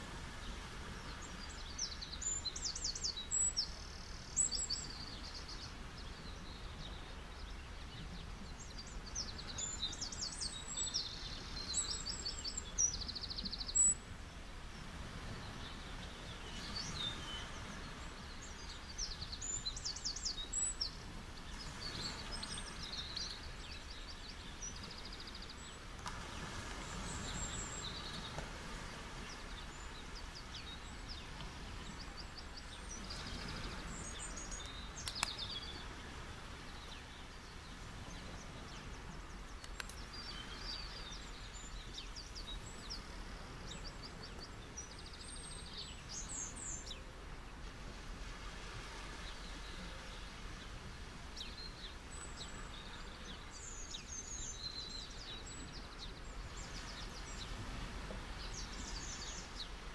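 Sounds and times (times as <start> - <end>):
surf: 0.0 - 59.9
small birds chirping: 1.0 - 14.0, 14.8 - 26.4, 27.0 - 47.5, 49.2 - 59.8.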